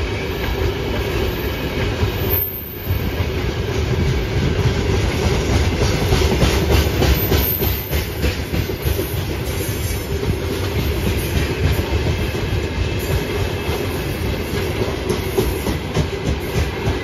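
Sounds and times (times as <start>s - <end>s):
clickety-clack over rail joints: 0.0s - 17.0s
steel wheels rumbling on rails: 0.0s - 17.0s.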